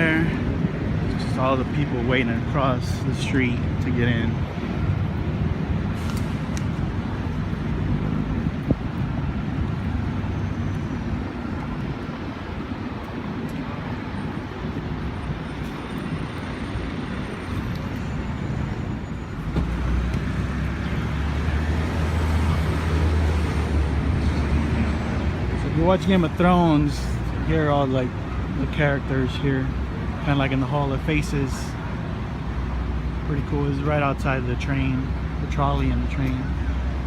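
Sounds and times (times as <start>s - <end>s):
passing vehicles rushing: 0.0s - 37.0s.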